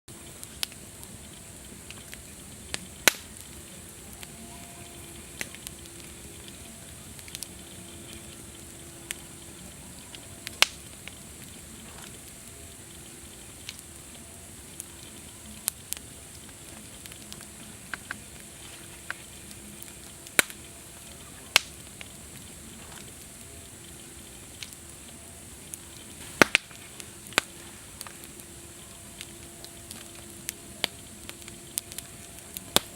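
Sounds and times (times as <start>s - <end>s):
campfire crackling and popping: 0.1s - 32.9s
high-pitched hiss: 0.1s - 32.9s.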